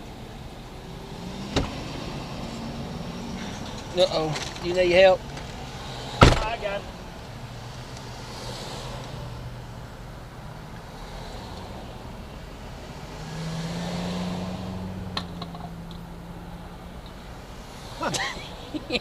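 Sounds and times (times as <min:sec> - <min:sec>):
road traffic: 0:00.0 - 0:19.0
vehicle passing by: 0:00.9 - 0:19.0.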